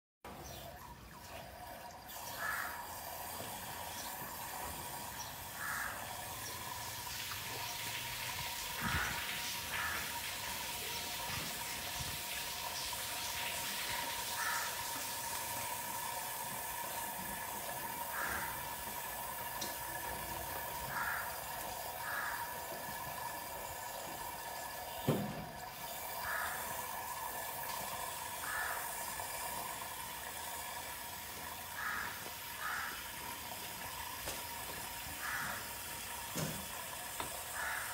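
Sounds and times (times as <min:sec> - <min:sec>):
water hissing into drinking bowl: 0:00.7 - 0:37.9.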